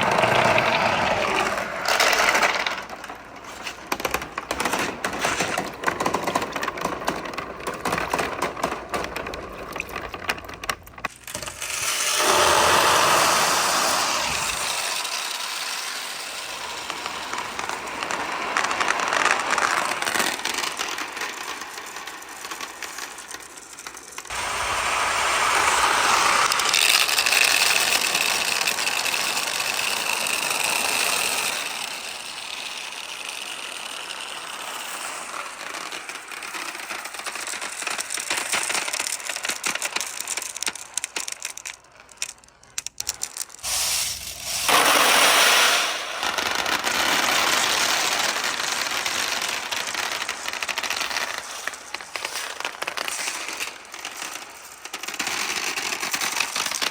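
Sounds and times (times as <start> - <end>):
marbles rolling down wooden run: 0.0 - 56.9.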